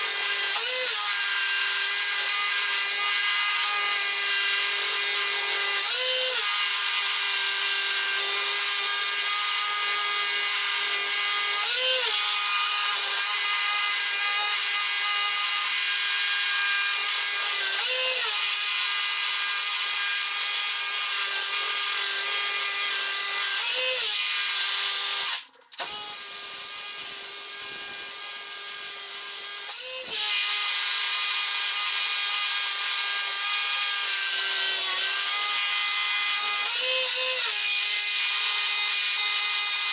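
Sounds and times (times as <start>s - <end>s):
power tool whining on concrete: 0.0s - 39.9s.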